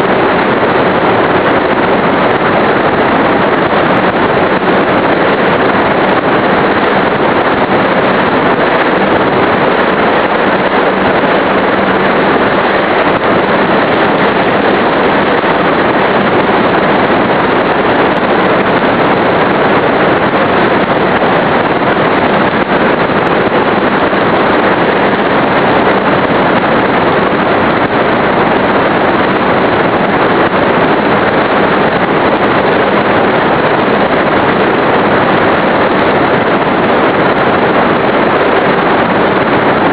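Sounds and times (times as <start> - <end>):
airflow rushing: 0.0 - 39.9.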